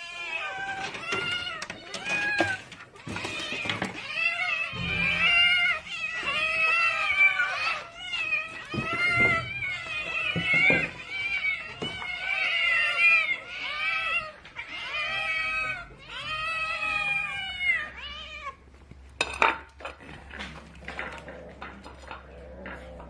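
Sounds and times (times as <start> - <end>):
cats meowing: 0.0 - 23.0.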